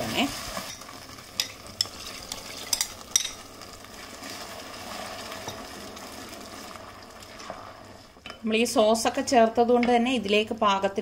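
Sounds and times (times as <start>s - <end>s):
sauce sizzling: 0.0s - 11.0s.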